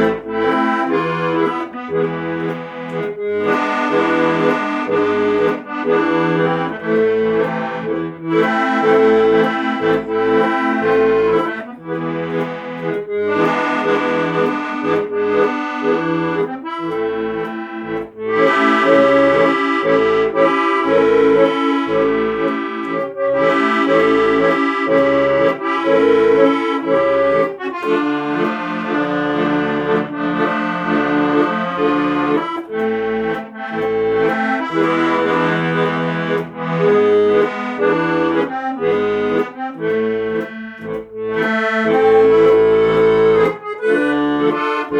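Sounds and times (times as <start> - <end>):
accordion music: 0.0 - 44.9.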